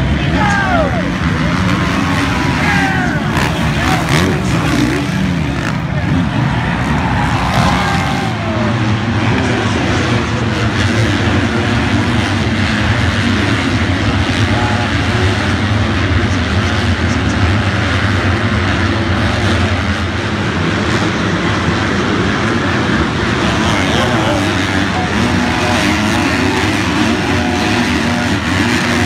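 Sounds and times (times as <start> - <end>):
motocross bikes engines droning: 0.0 - 29.0.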